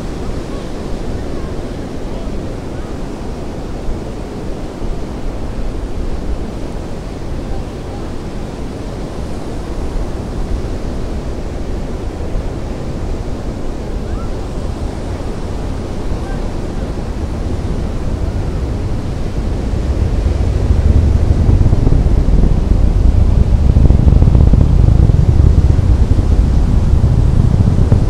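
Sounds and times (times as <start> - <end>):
distant rocket engine rumble: 0.0 - 28.0
surf: 0.0 - 28.0
wind on the microphone: 0.0 - 28.0.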